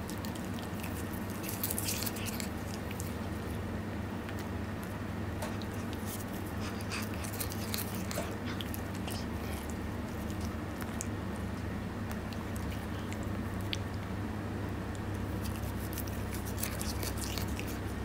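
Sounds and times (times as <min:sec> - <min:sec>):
cat chewing grass: 0:00.0 - 0:18.0
steady low hum: 0:00.0 - 0:18.0.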